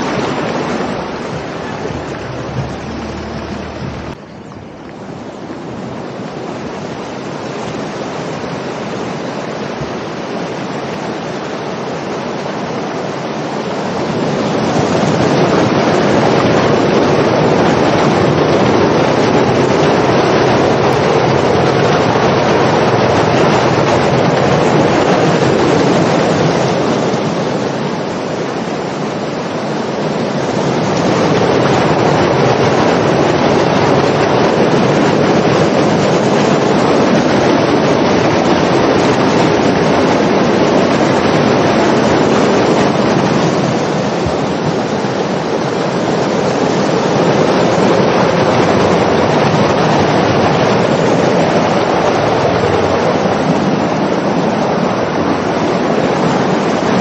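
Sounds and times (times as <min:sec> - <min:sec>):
floodwater rushing through pipes: 0:00.0 - 0:57.0.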